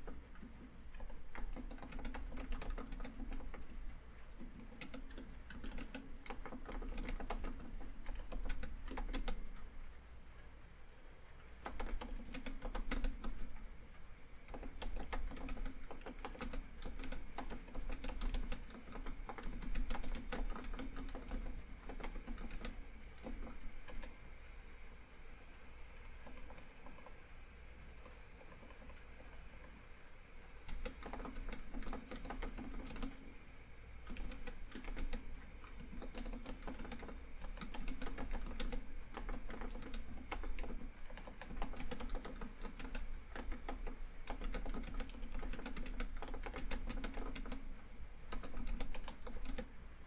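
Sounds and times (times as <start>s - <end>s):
typing on computer keyboard: 0.0s - 9.7s, 11.5s - 13.7s, 14.4s - 24.2s, 25.5s - 27.2s, 28.0s - 29.8s, 30.4s - 33.3s, 34.0s - 49.7s.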